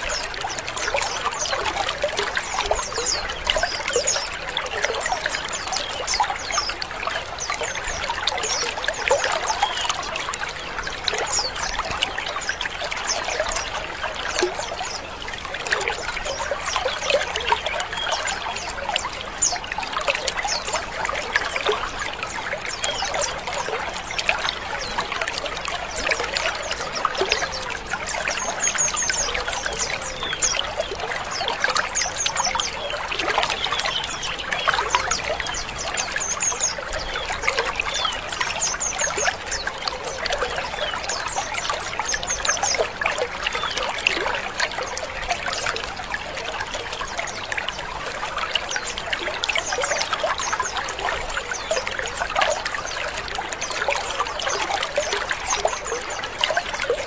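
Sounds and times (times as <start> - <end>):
birds chattering and chirping: 0.0 - 57.0.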